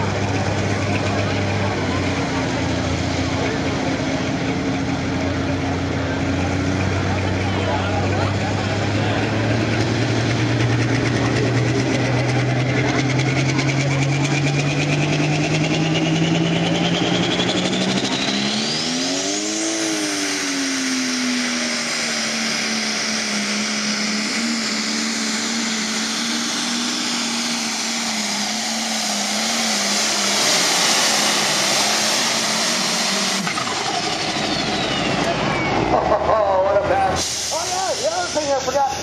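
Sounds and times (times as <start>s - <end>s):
tractor diesel engine at full power: 0.0s - 39.0s.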